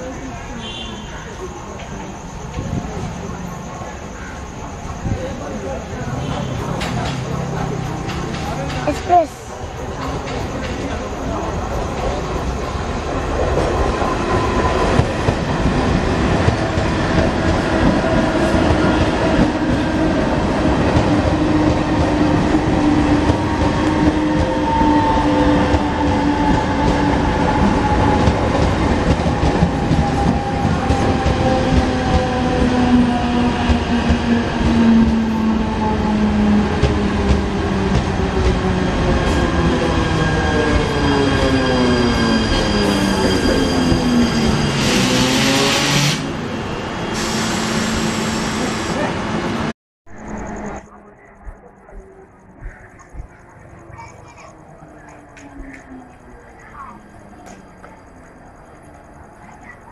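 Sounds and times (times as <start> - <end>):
train wheels rumbling and clattering: 1.4 - 59.9.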